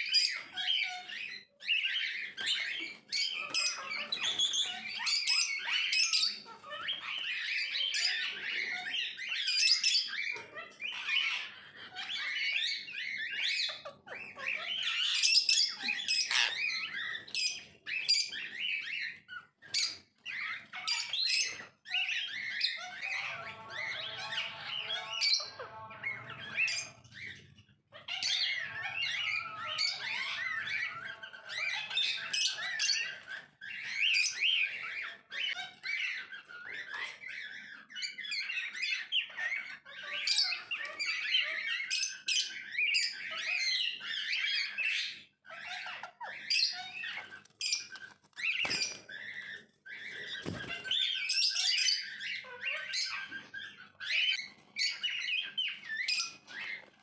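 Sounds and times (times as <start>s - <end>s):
parakeets chattering: 0.0s - 57.0s.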